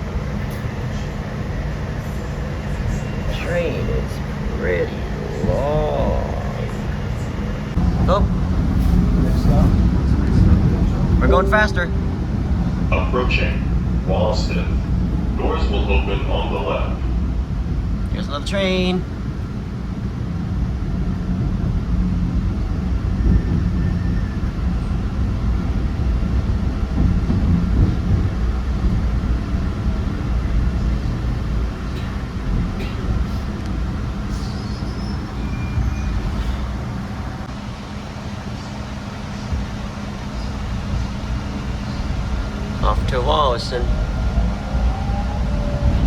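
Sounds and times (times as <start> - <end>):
subway wheels rumbling on rails: 0.0 - 46.0.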